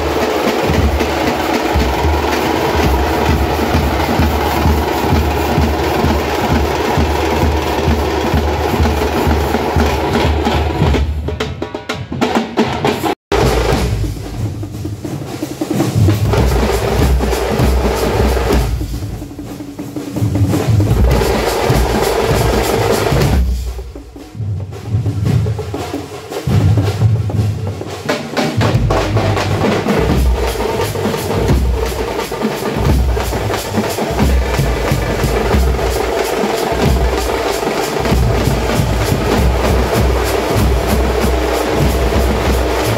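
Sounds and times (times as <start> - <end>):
drummers beating large drums: 0.0 - 42.9.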